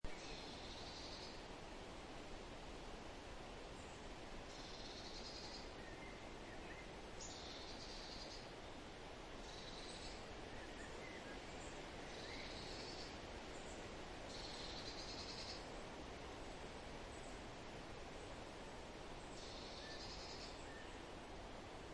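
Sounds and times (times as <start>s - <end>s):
steady hiss: 0.1s - 21.9s.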